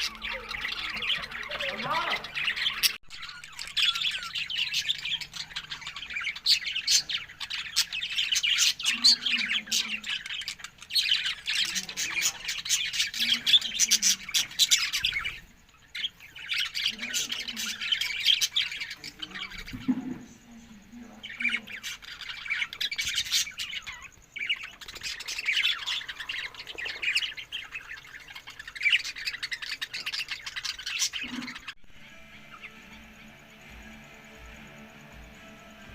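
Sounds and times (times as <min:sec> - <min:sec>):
budgerigars chattering and squawking: 0:00.0 - 0:35.9.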